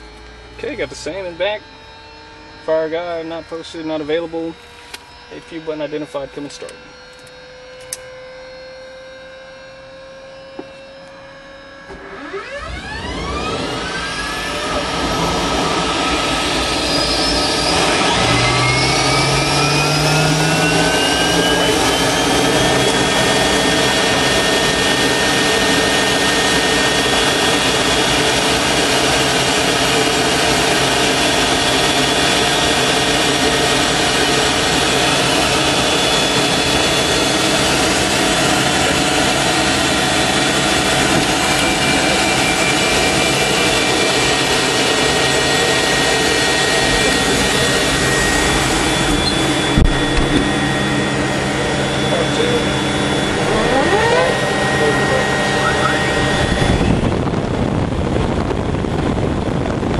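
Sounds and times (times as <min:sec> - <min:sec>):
gas turbine whine: 0:00.0 - 0:59.9
turbine rushing: 0:00.0 - 0:59.9.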